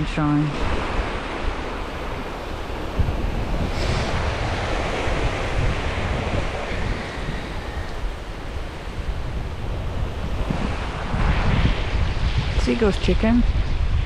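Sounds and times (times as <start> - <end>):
sea waves washing onto shore: 0.0 - 14.0
wind buffeting microphone: 0.0 - 14.0.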